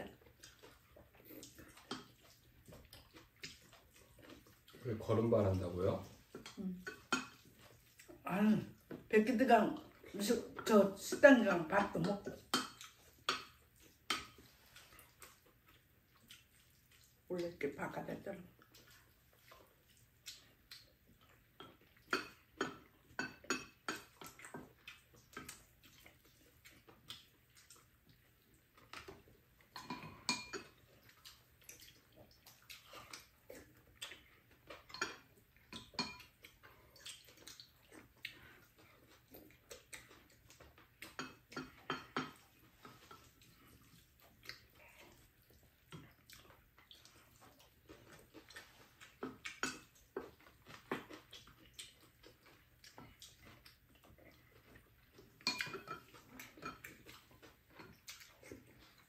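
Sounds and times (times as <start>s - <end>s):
chewing and mouth sounds: 0.0s - 59.0s.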